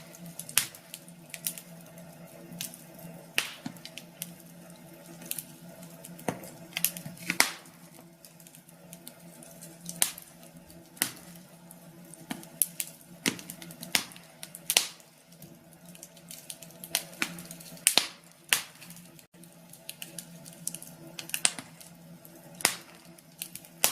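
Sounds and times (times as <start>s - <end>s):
wood crackling in stove: 0.0s - 23.9s.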